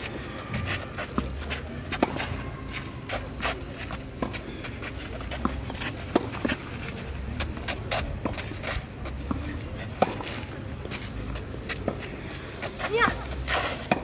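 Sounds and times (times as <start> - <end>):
tennis balls struck by rackets: 0.0 - 6.8, 7.4 - 14.0
tennis balls bouncing on clay: 0.0 - 14.0.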